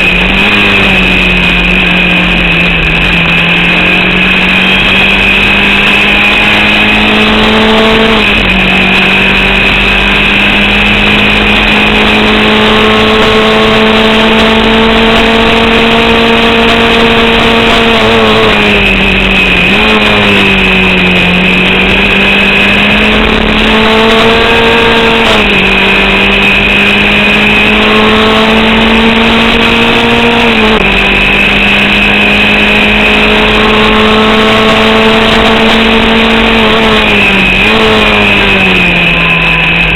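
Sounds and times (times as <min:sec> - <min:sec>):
racing car engine: 0:00.0 - 0:39.9.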